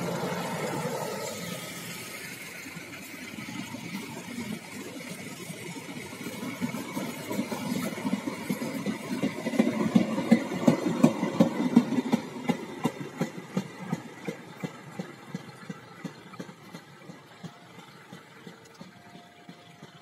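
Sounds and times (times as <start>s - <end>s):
train rumble: 0.0s - 20.0s
train wheels clacking on rail joints: 0.0s - 20.0s.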